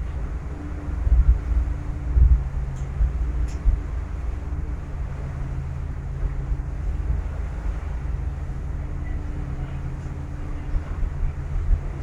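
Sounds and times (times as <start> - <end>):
ferry engine humming: 0.0 - 12.0
wind buffeting microphone: 0.0 - 12.0.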